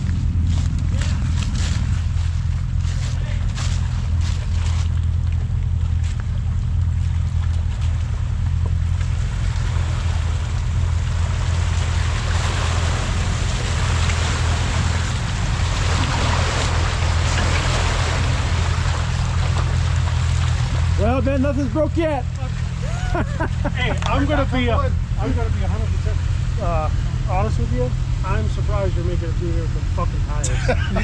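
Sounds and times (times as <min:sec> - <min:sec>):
off-road vehicle engine running: 0:00.0 - 0:31.0.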